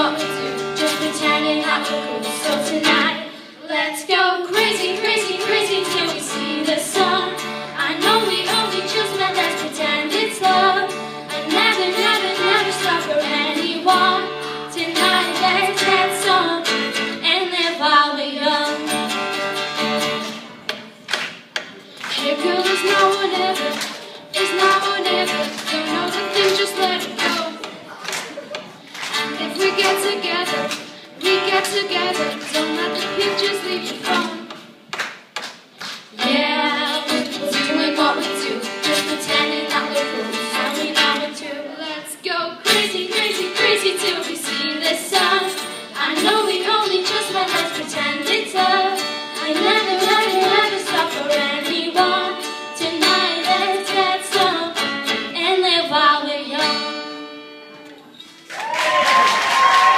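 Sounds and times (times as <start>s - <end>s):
strummed acoustic string instrument: 0.0s - 17.7s, 18.5s - 21.2s, 21.9s - 27.9s, 28.8s - 34.8s, 36.2s - 55.8s
person singing: 0.0s - 19.1s, 22.1s - 28.5s, 29.1s - 34.6s, 36.1s - 56.9s.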